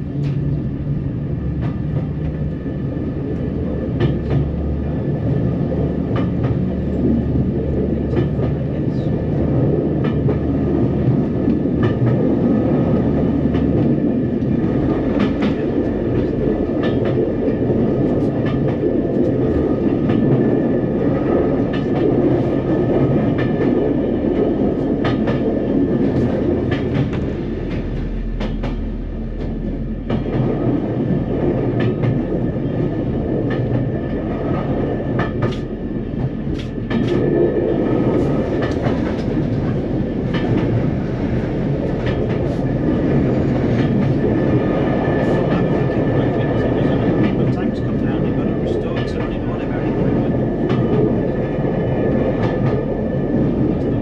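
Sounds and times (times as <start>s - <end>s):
railcar engine and wheels rumbling: 0.0s - 54.0s.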